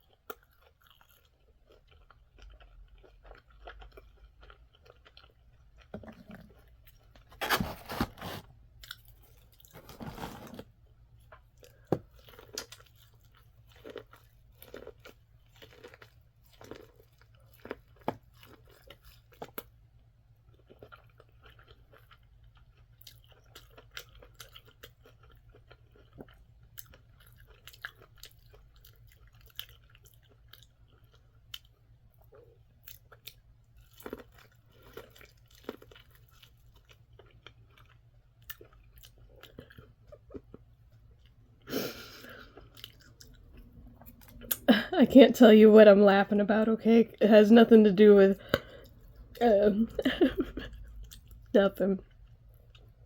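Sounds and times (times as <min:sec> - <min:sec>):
chewing and crunching food: 0:00.0 - 0:45.5, 0:47.1 - 0:53.0.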